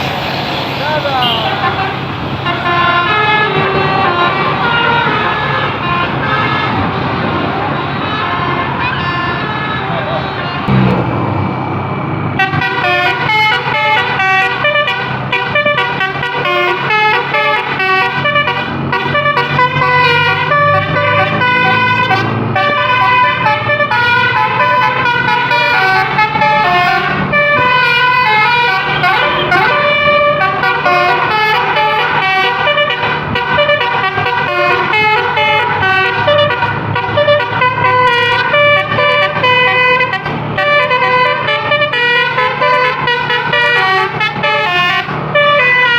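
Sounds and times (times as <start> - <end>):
multi-tone horn melody: 1.2 - 10.9, 12.4 - 45.9.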